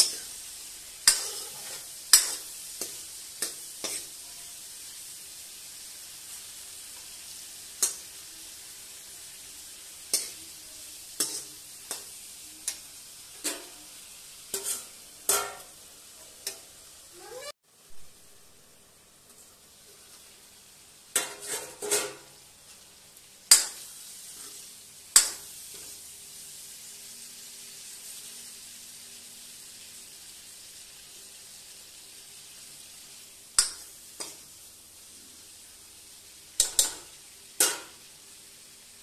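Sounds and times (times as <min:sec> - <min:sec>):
vegetables sizzling in a pan: 0:00.0 - 0:39.0.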